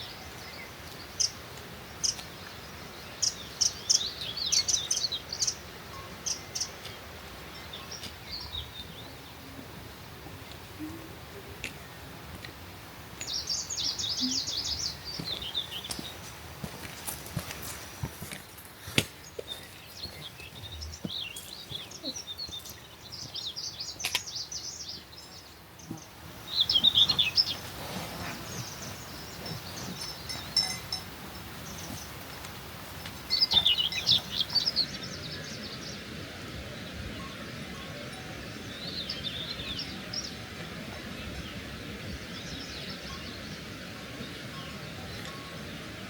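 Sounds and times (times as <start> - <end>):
songbirds chirping: 0.0 - 46.0
steady outdoor hiss: 0.0 - 46.0.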